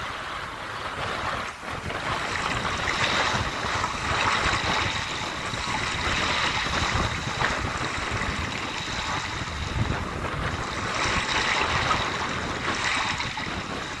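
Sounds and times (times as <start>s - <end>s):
sea waves washing onto shore: 0.0s - 14.0s
wind: 0.0s - 14.0s.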